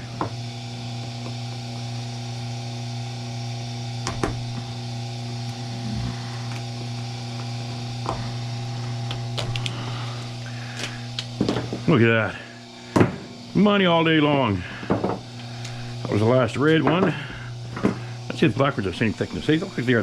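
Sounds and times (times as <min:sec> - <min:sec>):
cable-stripping machine humming: 0:00.0 - 0:20.0.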